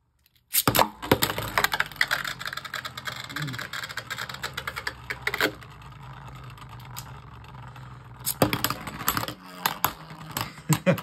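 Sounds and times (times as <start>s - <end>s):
spinning tops clattering: 0.5s - 11.0s
spinning tops whirring: 1.3s - 11.0s.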